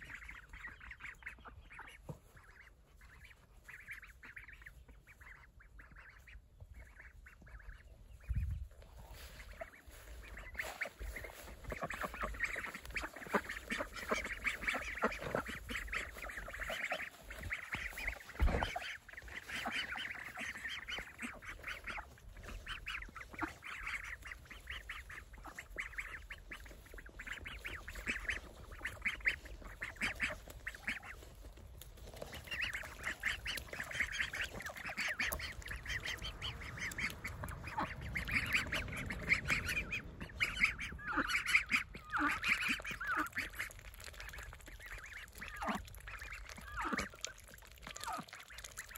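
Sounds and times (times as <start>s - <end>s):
ducks quacking: 0.0s - 48.9s.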